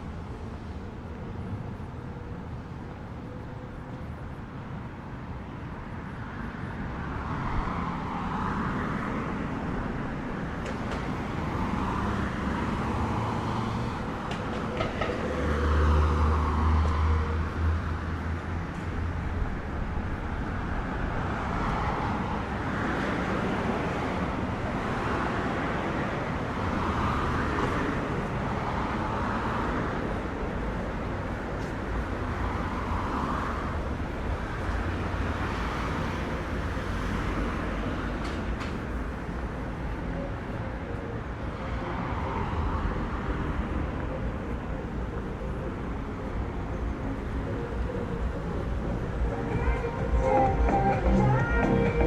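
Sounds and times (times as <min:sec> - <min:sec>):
vehicles passing with tyre swish: 0:00.0 - 0:52.0.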